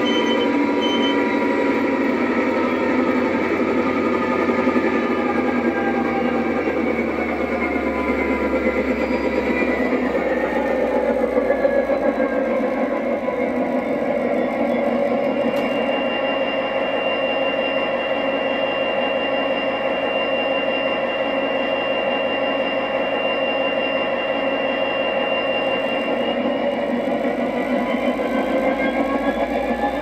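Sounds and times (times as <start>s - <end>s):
diesel locomotive engine rumble: 0.0s - 30.0s.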